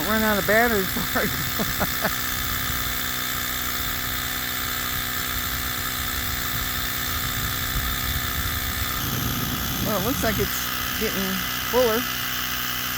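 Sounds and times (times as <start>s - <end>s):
air compressor running: 0.0s - 12.9s.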